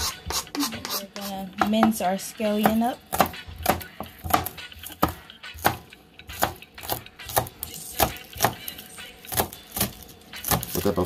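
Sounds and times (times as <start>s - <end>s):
knife chopping on cutting board: 0.0s - 2.0s, 2.6s - 10.8s.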